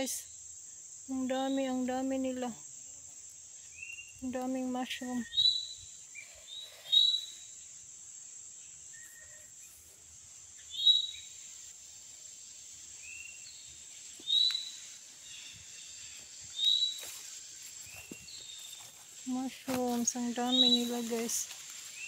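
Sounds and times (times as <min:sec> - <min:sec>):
high insect drone: 0:00.0 - 0:22.0
songbird calling: 0:03.6 - 0:11.7, 0:12.4 - 0:22.0.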